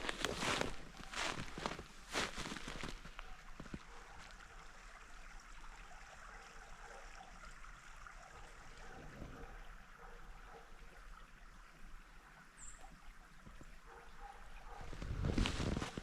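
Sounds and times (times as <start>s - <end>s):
creek water trickling: 0.0s - 16.0s.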